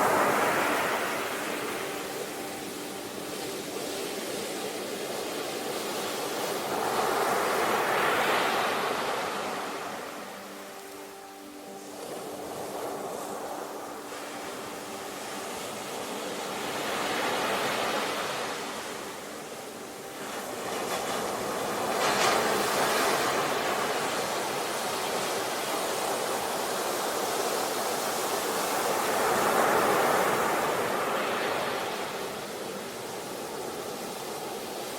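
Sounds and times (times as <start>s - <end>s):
ocean waves washing on shore: 0.0s - 34.9s.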